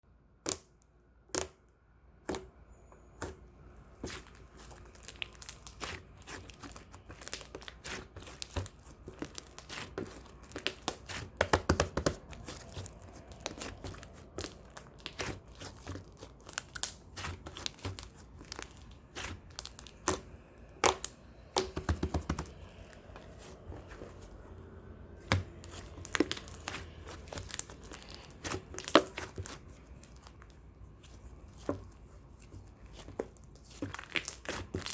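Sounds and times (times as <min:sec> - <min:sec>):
slime squished by hand: 0:02.2 - 0:34.9.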